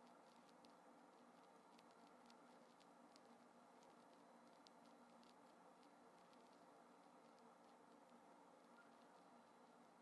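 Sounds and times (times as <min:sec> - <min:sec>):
faint steady hiss: 0:00.0 - 0:10.0
faint ticks: 0:00.0 - 0:10.0.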